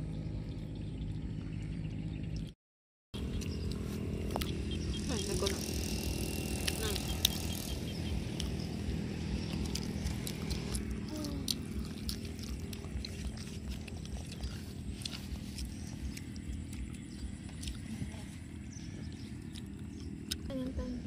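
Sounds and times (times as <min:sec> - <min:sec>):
child chewing with crackles: 0:03.2 - 0:21.0.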